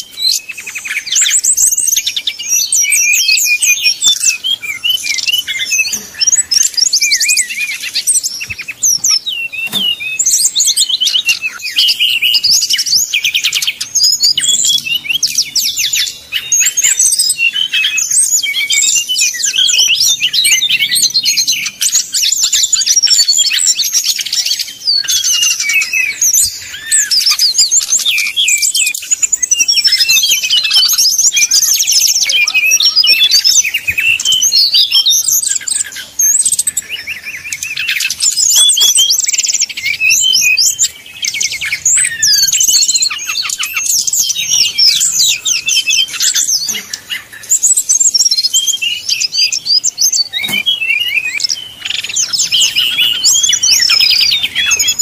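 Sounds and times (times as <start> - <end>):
birds singing rapid chirps and trills: 0.0 - 55.0.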